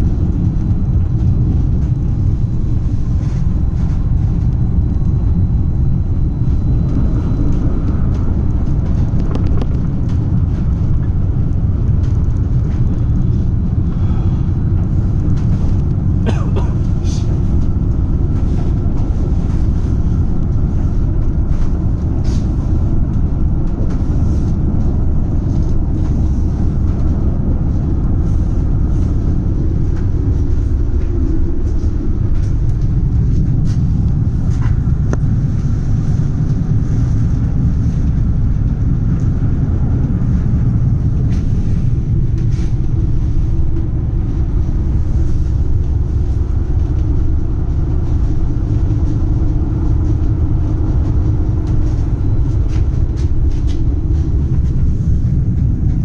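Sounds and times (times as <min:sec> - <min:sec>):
tram rumbling on track: 0:00.0 - 0:56.0.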